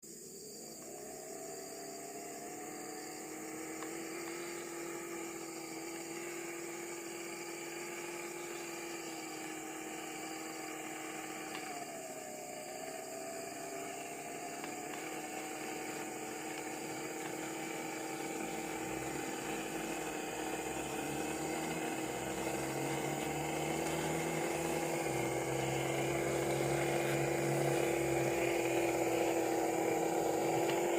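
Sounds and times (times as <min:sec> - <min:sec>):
electric motor whining: 0:00.1 - 0:30.9.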